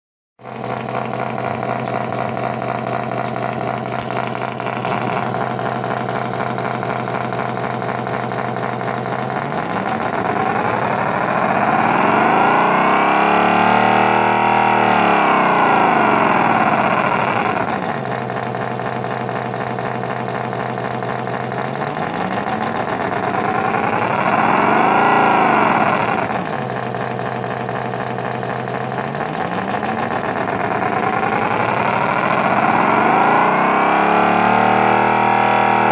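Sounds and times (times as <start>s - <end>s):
electronic engine sound effect: 0.4s - 18.4s, 21.6s - 28.1s, 29.2s - 35.9s.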